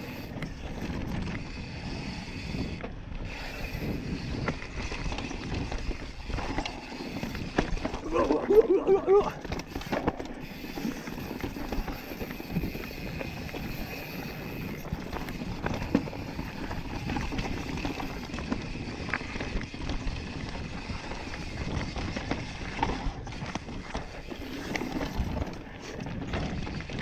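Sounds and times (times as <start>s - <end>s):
bike knocking and rattling: 0.0s - 27.0s
knobby tyres rumbling over dirt: 0.0s - 27.0s.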